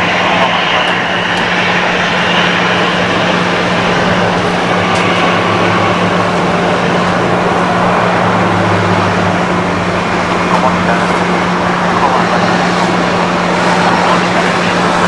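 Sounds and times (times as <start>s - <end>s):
constant low hum: 0.0s - 15.0s
jet engines roaring: 0.0s - 15.0s.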